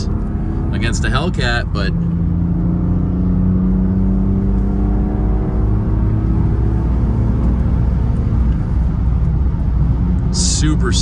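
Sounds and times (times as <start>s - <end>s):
car engine pulling: 0.0s - 11.0s
road rumble: 0.0s - 11.0s.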